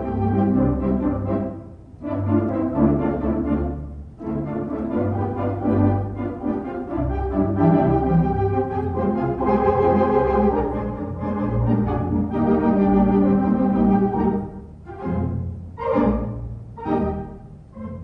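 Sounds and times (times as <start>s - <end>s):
organ chords: 0.0s - 18.0s.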